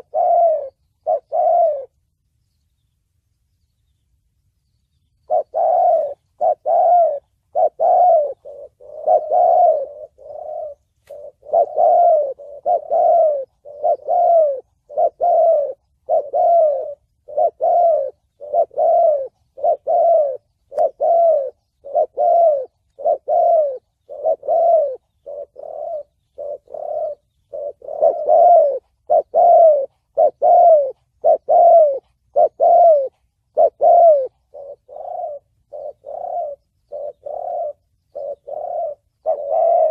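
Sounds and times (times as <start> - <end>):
dove cooing: 0.0 - 2.1, 5.2 - 39.9.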